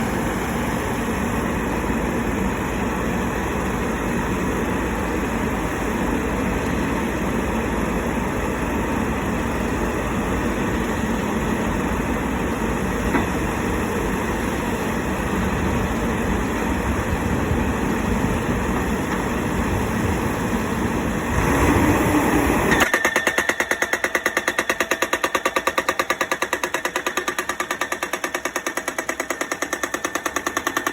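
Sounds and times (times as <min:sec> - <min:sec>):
pile driver engine running: 0:00.0 - 0:30.9.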